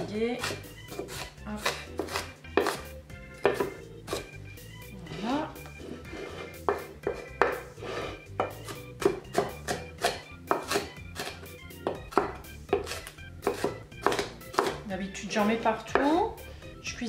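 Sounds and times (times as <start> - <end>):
knife chopping on wooden board: 0.0 - 4.4, 5.6 - 14.9, 15.5 - 16.2
background music: 0.0 - 17.0.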